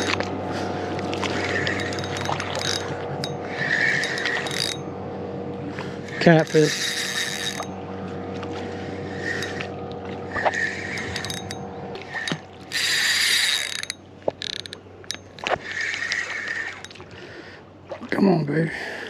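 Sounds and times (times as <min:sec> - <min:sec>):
fishing reel whirring and clicking: 0:00.0 - 0:05.0, 0:05.8 - 0:17.2.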